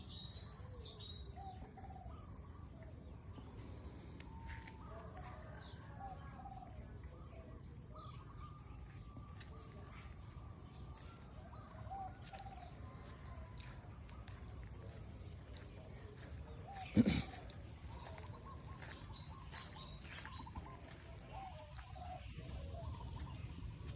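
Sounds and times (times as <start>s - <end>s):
birds chirping and calling: 0.0s - 23.9s.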